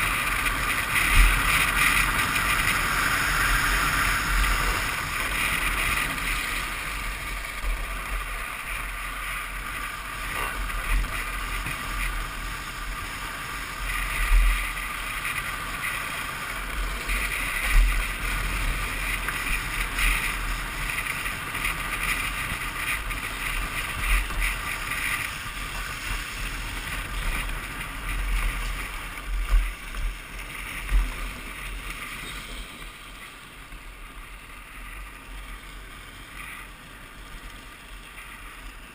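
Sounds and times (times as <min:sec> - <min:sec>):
wheels rolling and sliding on asphalt: 0:00.0 - 0:38.9.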